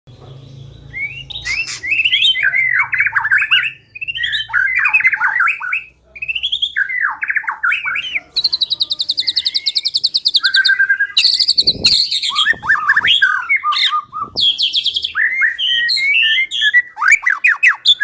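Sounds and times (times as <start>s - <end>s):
bird singing whistled phrases: 0.8s - 18.0s
bird trilling: 0.9s - 18.0s.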